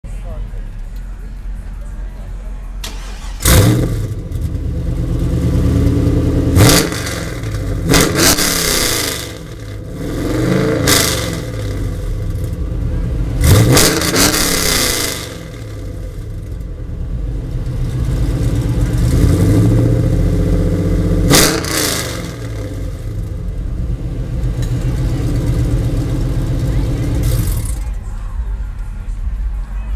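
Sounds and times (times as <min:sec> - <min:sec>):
car engine revving: 0:02.8 - 0:28.0.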